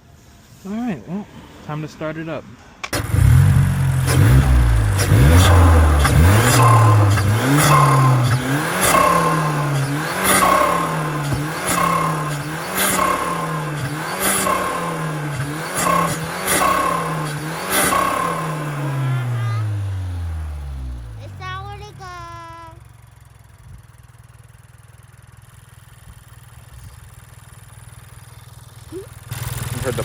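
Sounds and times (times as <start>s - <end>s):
car engine starting and revving: 2.8s - 24.4s, 25.3s - 30.0s.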